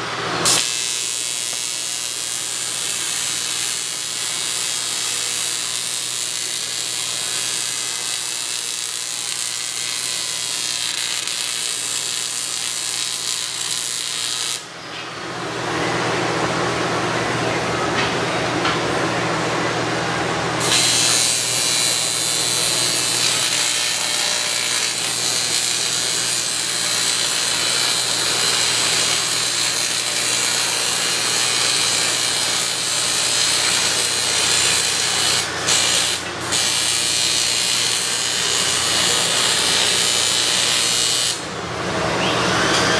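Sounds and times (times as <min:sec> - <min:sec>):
welding arc crackling hiss: 0:00.4 - 0:14.7, 0:20.6 - 0:41.5.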